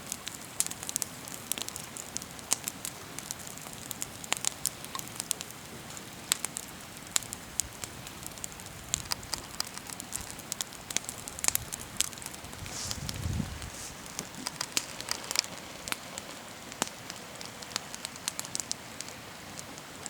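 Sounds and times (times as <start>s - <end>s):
campfire crackling: 0.0s - 20.0s
faint hiss: 0.0s - 20.0s.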